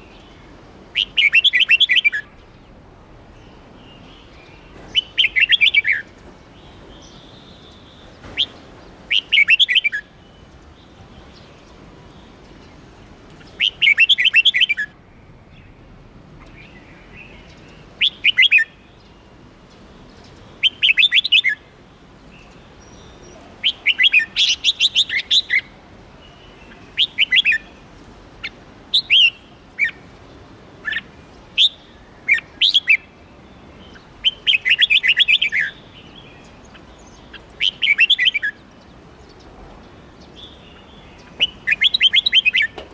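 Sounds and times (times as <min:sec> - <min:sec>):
bulbul singing whistled phrases: 0:00.0 - 0:02.5, 0:03.9 - 0:11.7, 0:13.4 - 0:15.8, 0:16.5 - 0:19.3, 0:20.3 - 0:21.7, 0:22.4 - 0:27.8, 0:28.4 - 0:30.0, 0:30.8 - 0:42.8.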